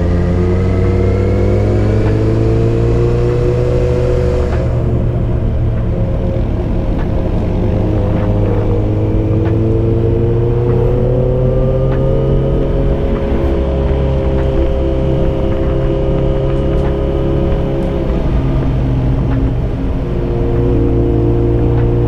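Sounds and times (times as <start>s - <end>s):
motorcycle engine on the road: 0.0s - 22.0s.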